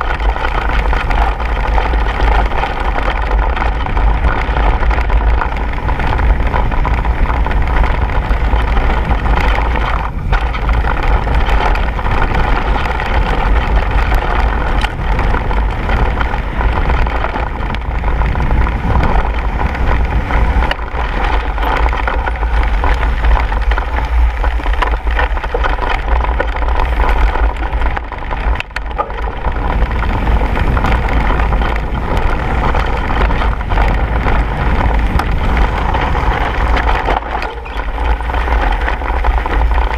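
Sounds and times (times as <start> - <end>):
bike rattling and knocking: 0.0 - 39.9
tyres crunching over gravel: 0.0 - 39.9
wind rumble on microphone: 0.0 - 39.9.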